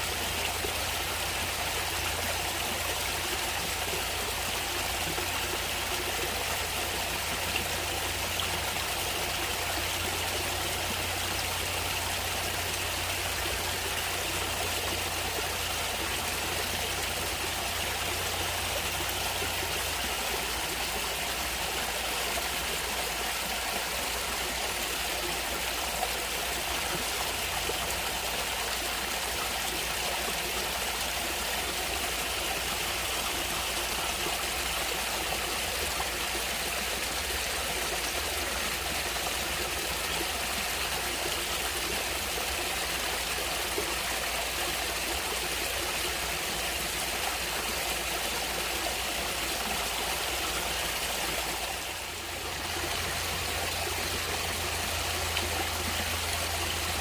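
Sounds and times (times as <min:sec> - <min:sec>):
stream water trickling: 0:00.0 - 0:57.0.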